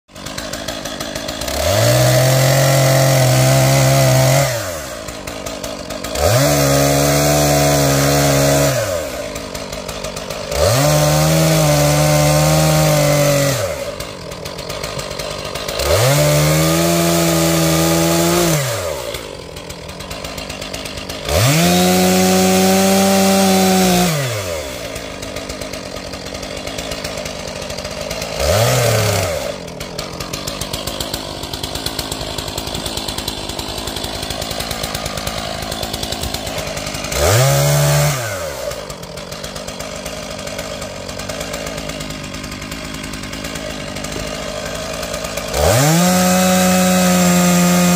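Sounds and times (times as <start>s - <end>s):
chainsaw revving and idling: 0.1s - 47.9s.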